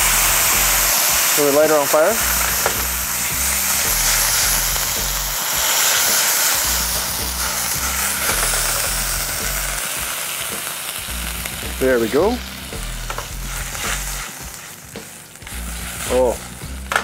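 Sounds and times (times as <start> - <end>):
background music with bass: 0.0 - 5.7, 6.5 - 17.0
vegetables sizzling in a frying pan: 0.0 - 17.0.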